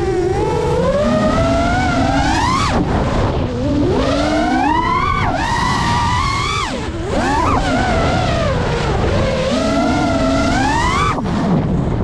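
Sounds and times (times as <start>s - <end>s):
quadcopter motors whining: 0.0s - 12.0s
prop wash and wind rush: 0.8s - 12.0s.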